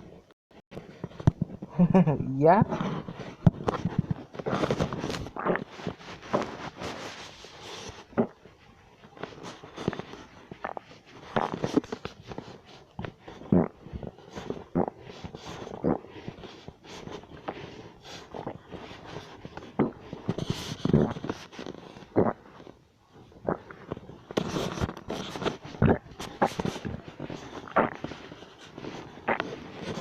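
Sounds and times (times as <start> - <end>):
stomach growling: 2.7 - 30.0.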